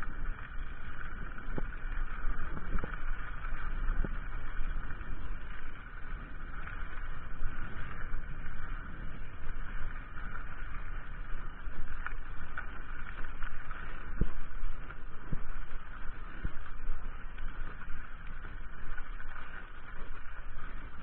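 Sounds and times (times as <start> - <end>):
bike tyres rumbling on trail: 0.0 - 21.0
wind on microphone: 0.0 - 21.0.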